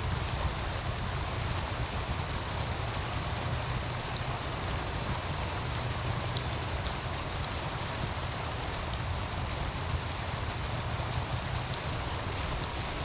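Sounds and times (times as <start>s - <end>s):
stream running: 0.0s - 13.0s
wood fire crackling: 0.0s - 13.0s.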